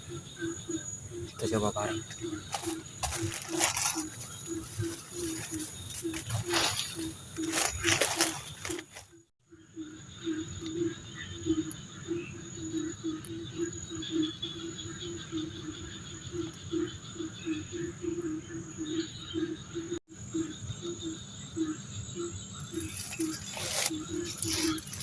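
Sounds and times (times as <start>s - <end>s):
frogs croaking: 0.0s - 25.0s
insects droning: 0.0s - 25.0s.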